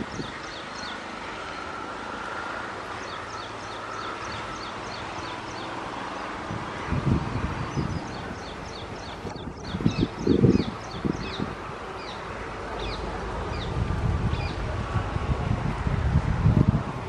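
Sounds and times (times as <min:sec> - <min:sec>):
steady outdoor hiss: 0:00.0 - 0:17.0
wind buffeting microphone: 0:00.0 - 0:17.0.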